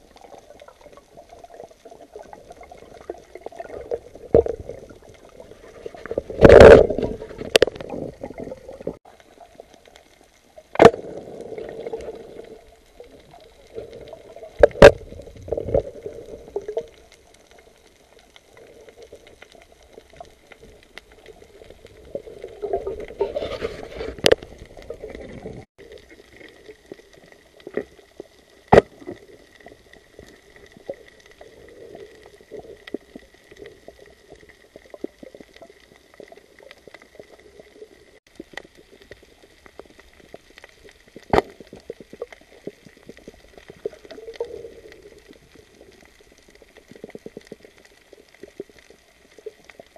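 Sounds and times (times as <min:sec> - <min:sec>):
underwater bubbling and sloshing: 0:00.0 - 0:49.9.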